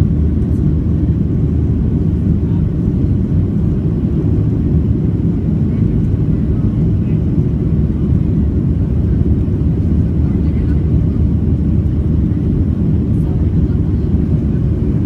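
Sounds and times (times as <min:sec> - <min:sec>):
jet engines rumbling in cabin: 0:00.0 - 0:15.0.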